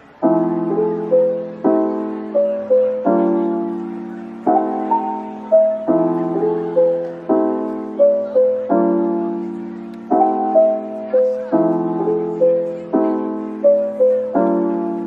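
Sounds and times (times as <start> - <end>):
slow piano chords and melody: 0.0 - 15.0.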